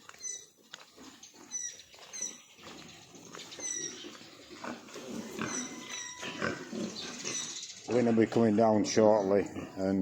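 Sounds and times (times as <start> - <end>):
pigs squeaking: 0.0 - 10.0.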